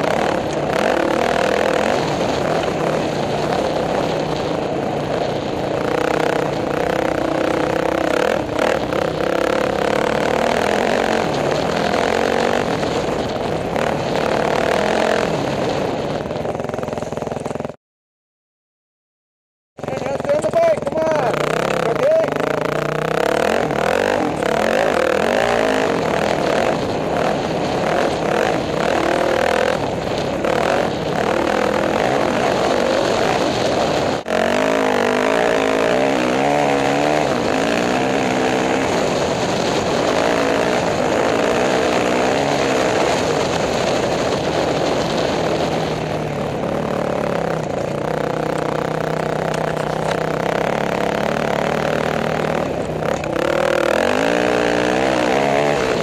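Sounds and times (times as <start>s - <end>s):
motorcycle engine revving hard: 0.0s - 17.8s, 19.8s - 56.0s
wind noise on microphone: 0.0s - 17.8s, 20.3s - 56.0s.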